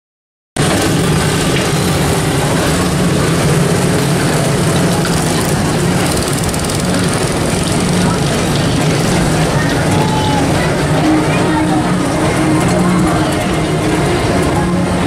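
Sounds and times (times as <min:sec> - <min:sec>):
vehicles droning: 0:00.6 - 0:15.0.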